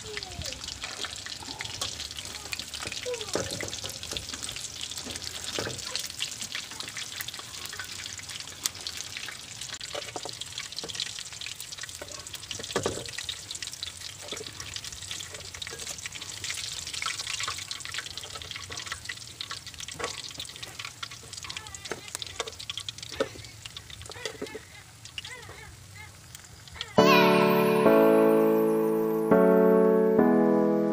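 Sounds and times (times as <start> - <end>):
chicken deep-frying in oil: 0.0 - 27.0.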